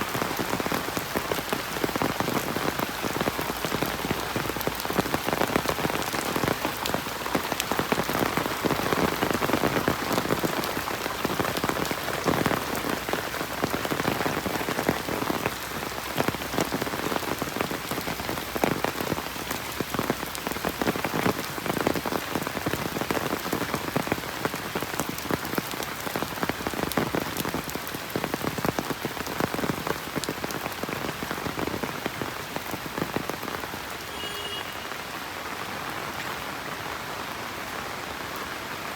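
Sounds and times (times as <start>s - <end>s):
heavy rain on road and foliage: 0.0s - 38.9s.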